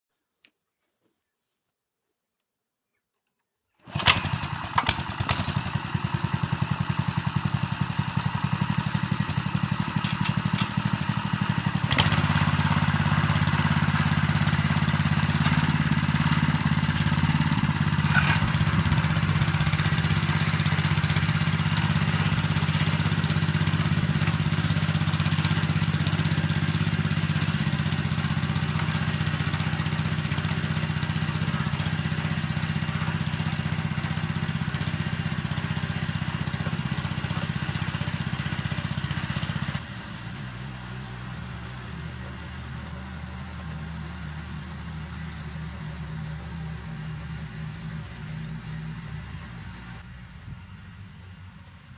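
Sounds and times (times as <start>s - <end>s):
tiller engine running: 3.8s - 50.1s.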